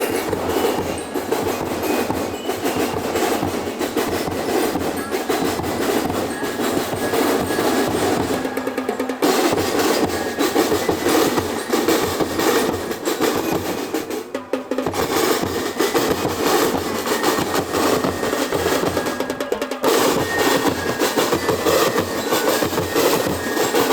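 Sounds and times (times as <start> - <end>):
percussive drum music: 0.0 - 23.9.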